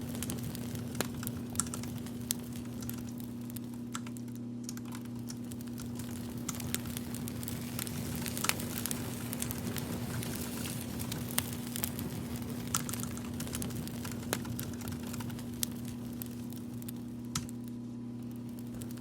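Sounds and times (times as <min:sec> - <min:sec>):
light clicks and crackles: 0:00.0 - 0:19.0.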